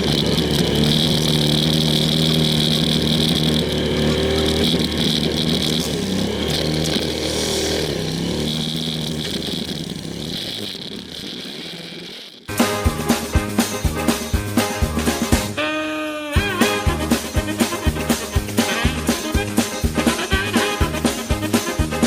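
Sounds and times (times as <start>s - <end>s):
small motocross bike engines: 0.0s - 22.0s.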